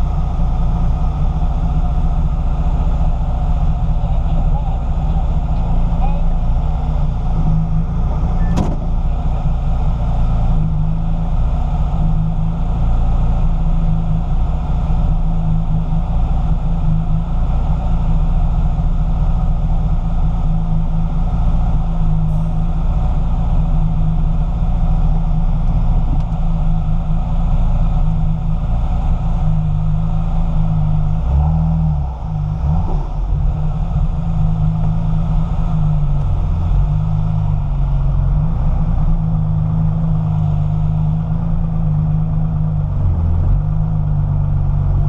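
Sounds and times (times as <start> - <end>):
car engine running steadily: 0.0 - 45.0.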